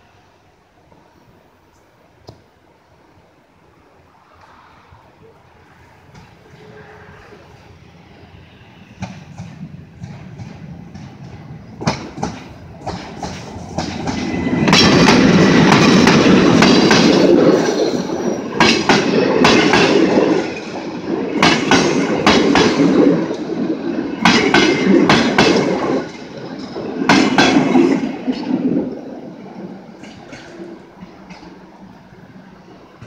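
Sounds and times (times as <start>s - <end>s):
train wheels rushing on rail: 0.0s - 33.0s.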